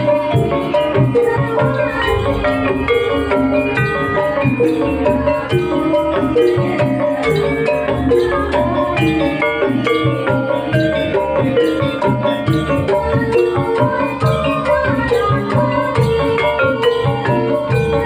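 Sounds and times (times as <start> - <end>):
gamelan metallophone notes: 0.0 - 18.0
steady percussion: 0.0 - 18.0.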